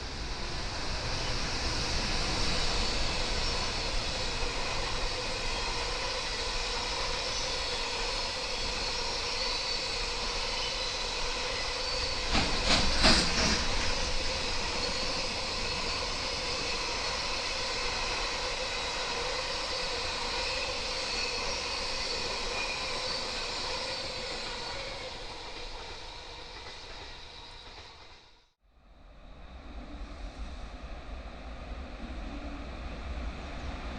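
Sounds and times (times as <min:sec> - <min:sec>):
freight train rolling on rails: 0:00.0 - 0:33.9.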